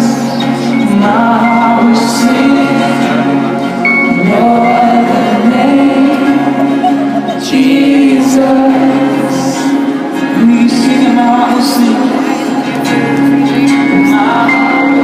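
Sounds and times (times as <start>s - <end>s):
rock band playing with singing: 0.0s - 15.0s.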